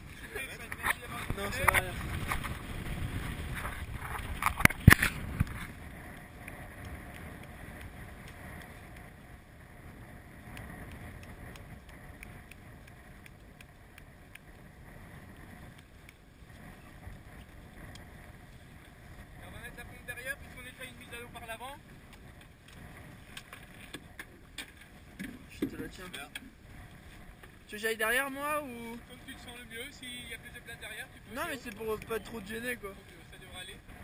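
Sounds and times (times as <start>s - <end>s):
wind and water noise: 0.0s - 34.0s.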